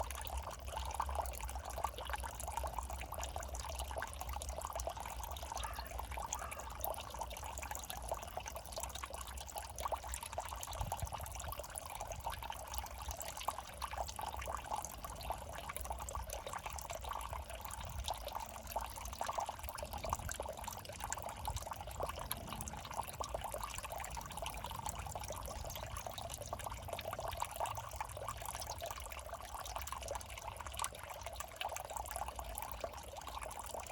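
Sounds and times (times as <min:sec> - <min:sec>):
low constant rumble: 0:00.0 - 0:33.9
water trickling in a ditch: 0:00.0 - 0:33.9.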